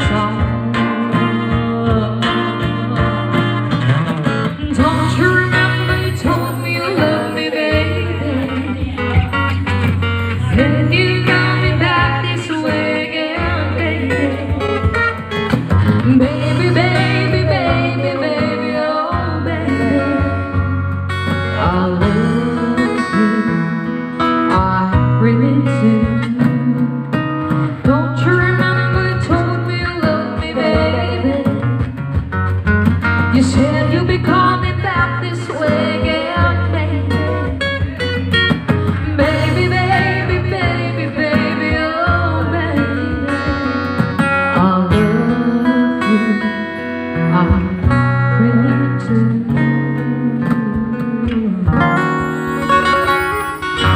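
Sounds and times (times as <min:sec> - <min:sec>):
woman singing into a microphone: 0:00.0 - 0:32.2, 0:33.2 - 0:53.9
instrumental backing: 0:00.0 - 0:53.9.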